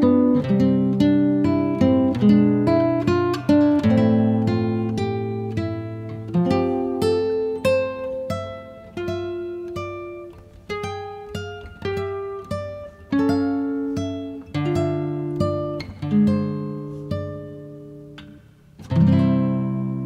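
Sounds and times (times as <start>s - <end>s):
guitar plucked and strummed: 0.0s - 20.0s.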